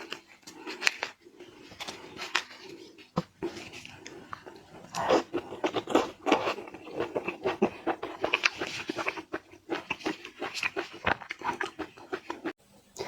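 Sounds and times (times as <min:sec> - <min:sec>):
seafood crunching and chewing: 0:00.0 - 0:12.6.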